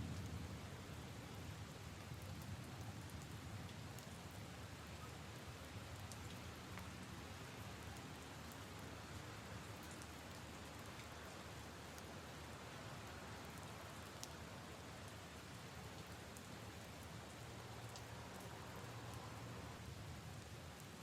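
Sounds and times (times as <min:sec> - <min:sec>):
rain on puddles and leaves: 0:00.0 - 0:21.0.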